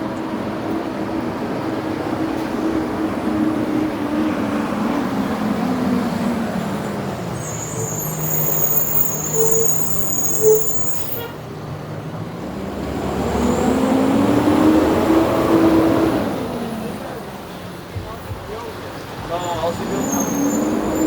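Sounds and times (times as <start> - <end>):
vehicle engine pulling away: 0.0 - 11.1, 11.7 - 17.8, 18.9 - 21.0
road traffic engine hum: 0.0 - 21.0.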